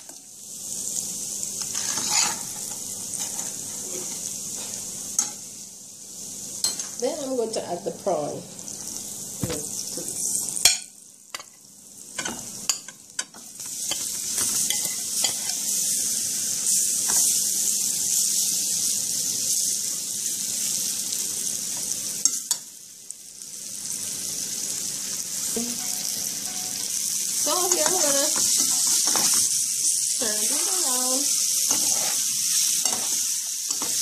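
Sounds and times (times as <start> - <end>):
prawns sizzling in hot oil: 0.0 - 34.0.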